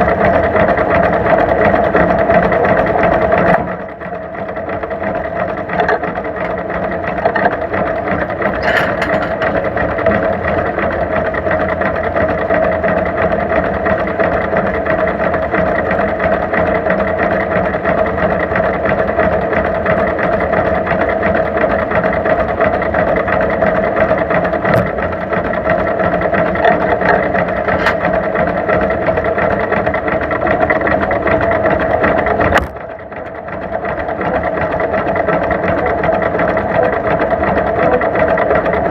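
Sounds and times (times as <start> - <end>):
two-cylinder tractor engine running: 0.0 - 38.9.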